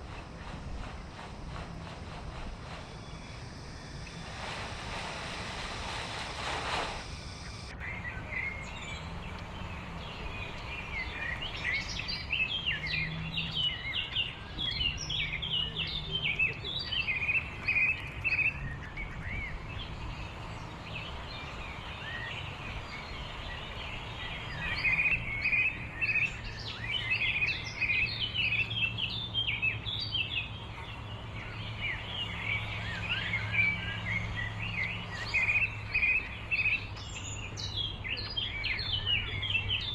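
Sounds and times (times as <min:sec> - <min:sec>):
rushing wind-like noise: 0:00.0 - 0:39.9
small birds chirping: 0:00.0 - 0:39.9
steady low hum: 0:00.0 - 0:39.9.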